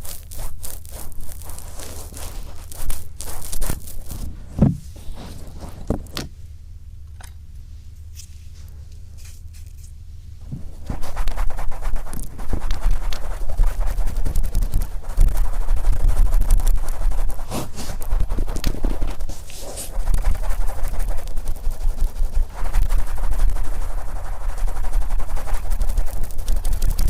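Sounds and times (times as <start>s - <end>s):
swab rubbing on microphone: 0.0s - 5.9s, 8.2s - 27.0s.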